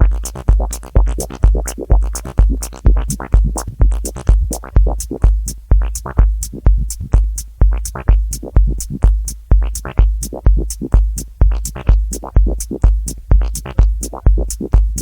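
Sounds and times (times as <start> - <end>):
drum machine kick and hi-hat: 0.0 - 15.0.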